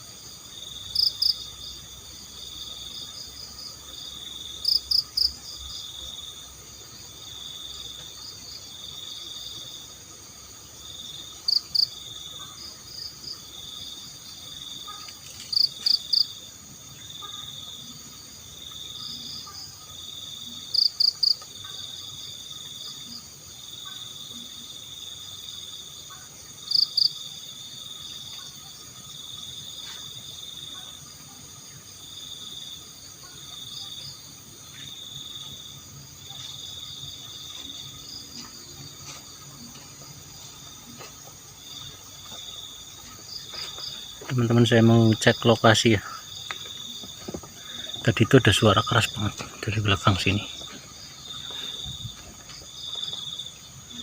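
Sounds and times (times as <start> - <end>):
crickets trilling: 0.0 - 54.0
sharp high cricket chirps: 0.0 - 54.0.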